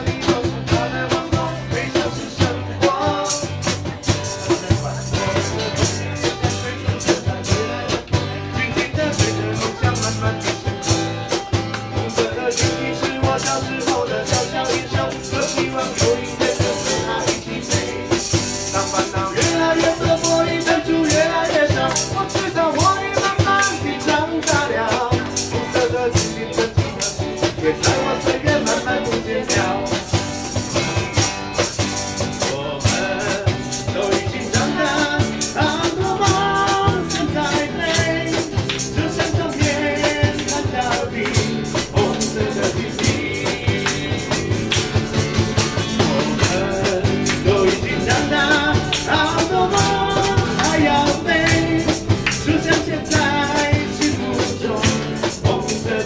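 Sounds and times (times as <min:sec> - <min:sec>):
man singing into microphone: 0:00.0 - 0:11.0, 0:11.9 - 0:30.1, 0:32.4 - 0:56.0
electric guitar: 0:00.0 - 0:56.0
percussion beat: 0:00.0 - 0:56.0
strummed acoustic guitar: 0:00.0 - 0:56.0.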